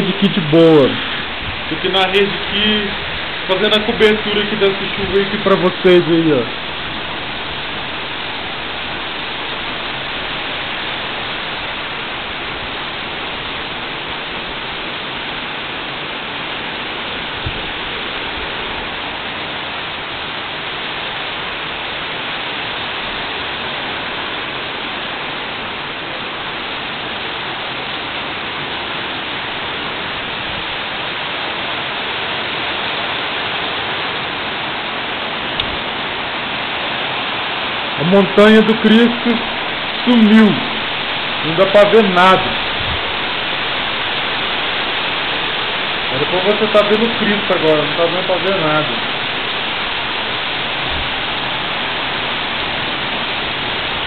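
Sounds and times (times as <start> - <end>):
heavy rain on tiles: 0.0 - 54.0.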